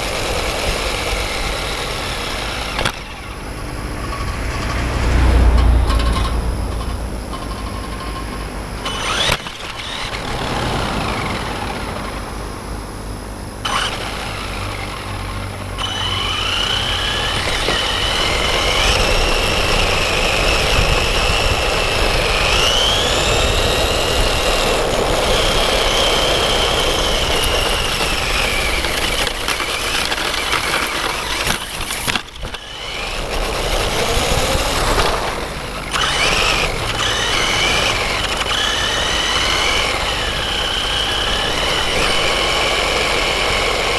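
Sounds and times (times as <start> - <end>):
electric motor whining: 0.0 - 43.9
steady rushing noise: 0.0 - 43.9.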